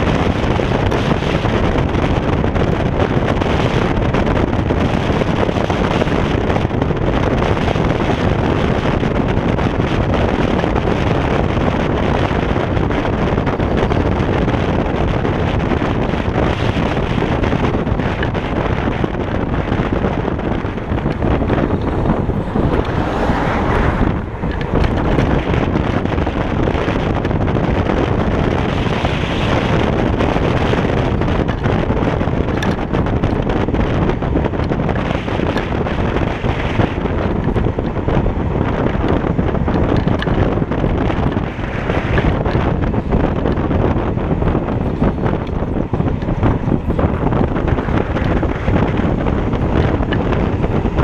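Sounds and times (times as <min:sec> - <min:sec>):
road and tyre rumble: 0:00.0 - 0:51.0
wind buffeting microphone: 0:00.0 - 0:51.0.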